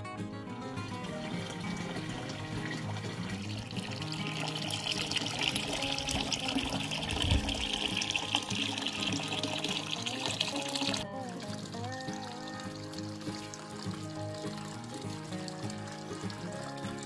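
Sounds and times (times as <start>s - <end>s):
water running in a stream: 0.0s - 17.0s.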